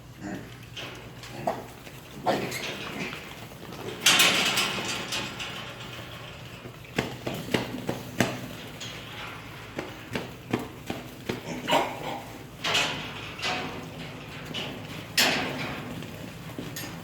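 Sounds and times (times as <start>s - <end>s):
knocks and clatters: 0.8s - 17.0s.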